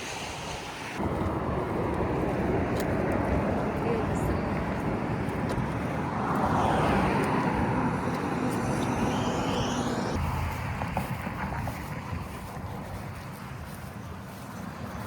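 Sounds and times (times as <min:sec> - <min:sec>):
vehicle engine whine: 0:00.8 - 0:15.0.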